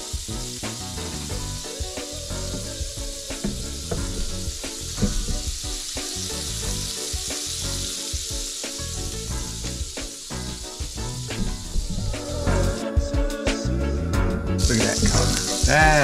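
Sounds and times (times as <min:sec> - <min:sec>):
butter sizzling in a skillet: 0:00.0 - 0:13.0, 0:14.6 - 0:16.0
background music: 0:00.0 - 0:16.0.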